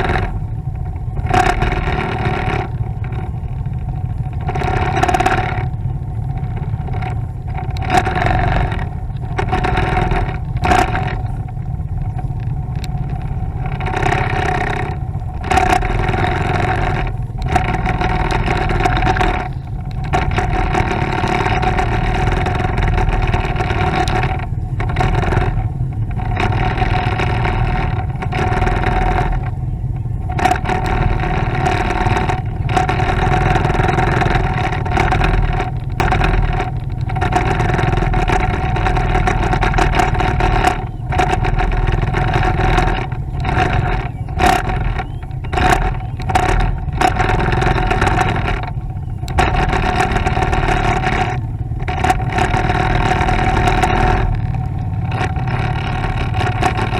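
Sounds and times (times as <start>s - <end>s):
motorcycle engine hum: 0.0s - 56.9s
wind and road noise: 0.0s - 56.9s.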